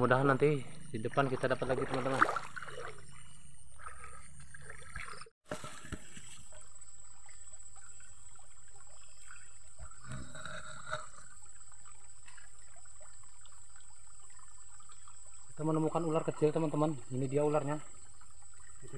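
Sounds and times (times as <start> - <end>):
stream trickling over stones: 1.1 - 18.9.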